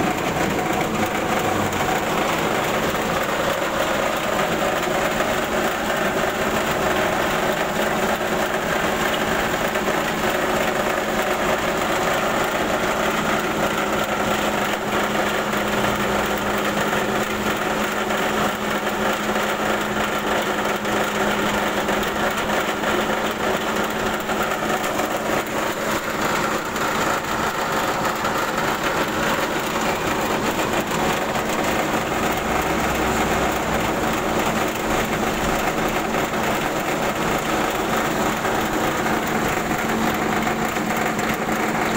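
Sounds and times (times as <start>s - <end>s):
rice huller running: 0.0s - 41.9s.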